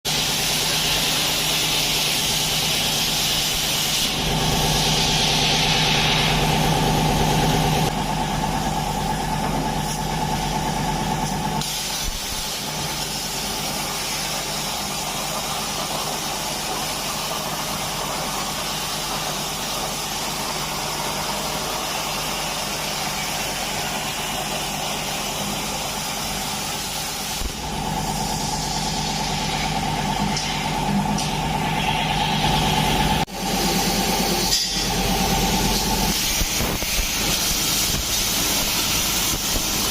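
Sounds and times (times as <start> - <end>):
laser cutting machine humming: 0.1 - 39.9.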